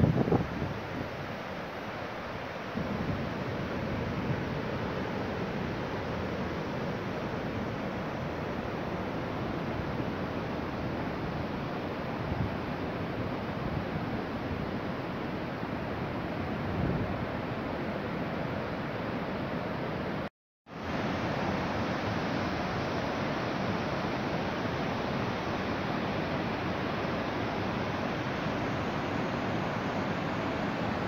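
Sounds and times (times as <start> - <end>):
rushing wind: 0.0 - 31.0.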